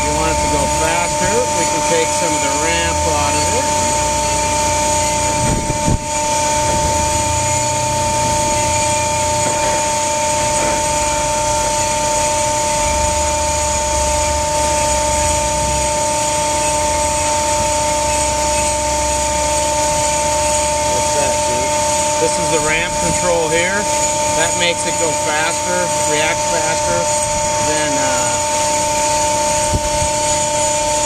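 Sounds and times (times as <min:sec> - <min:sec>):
hydraulic winch whining: 0:00.0 - 0:31.0.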